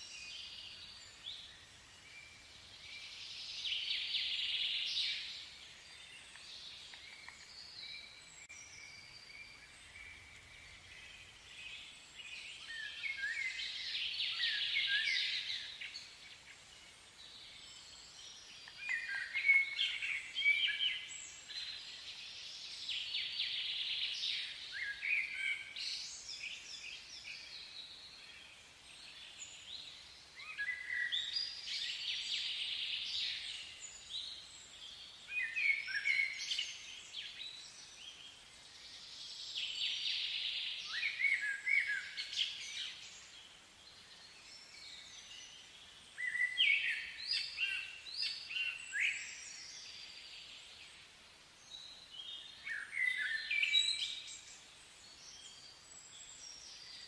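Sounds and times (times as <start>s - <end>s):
faint outdoor hiss: 0.0s - 57.0s
small birds chirping and warbling: 0.0s - 57.0s.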